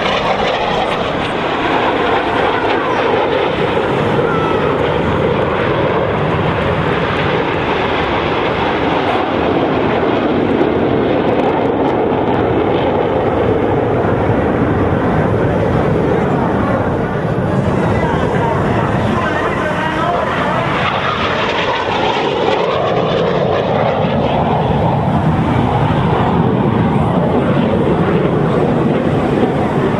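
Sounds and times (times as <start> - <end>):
jet aircraft flying overhead: 0.0 - 29.9.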